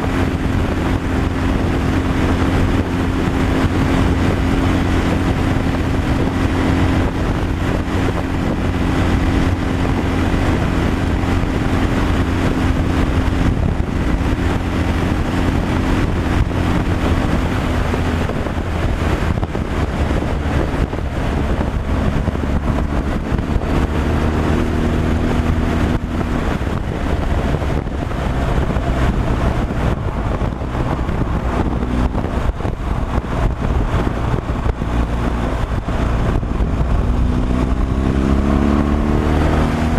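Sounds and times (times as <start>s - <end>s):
road and wind noise: 0.0s - 39.9s
truck diesel engine running: 0.0s - 39.9s.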